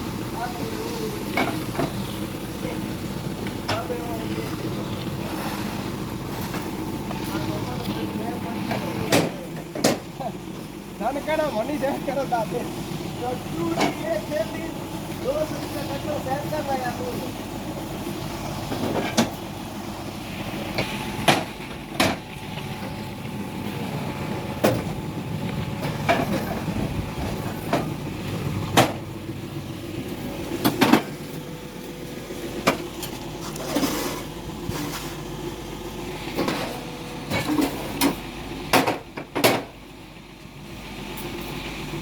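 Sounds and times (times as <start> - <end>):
block-making machinery humming: 0.0 - 42.0.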